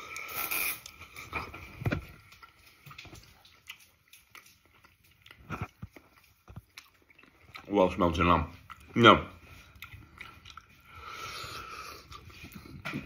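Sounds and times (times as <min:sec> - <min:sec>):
person chewing meat: 0:00.0 - 0:13.0.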